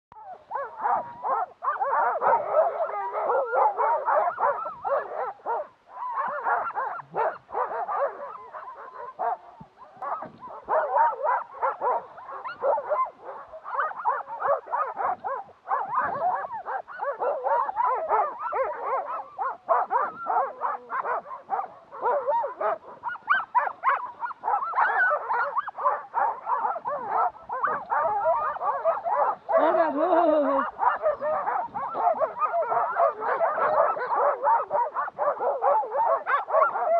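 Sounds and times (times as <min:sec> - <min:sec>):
sled dogs yelping and barking: 0:00.2 - 0:36.9.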